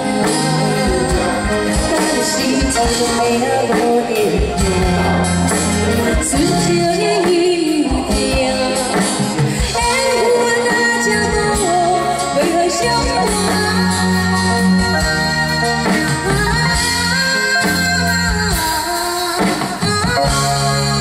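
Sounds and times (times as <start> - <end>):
bending melodic lead line: 0.0 - 21.0
live band playing pop: 0.0 - 21.0.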